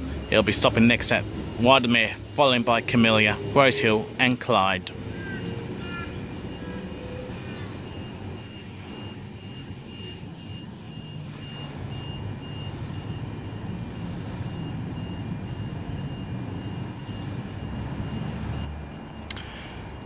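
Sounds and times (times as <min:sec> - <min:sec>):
electric train rumbling: 0:00.0 - 0:20.0
high regular beeping: 0:00.0 - 0:20.0.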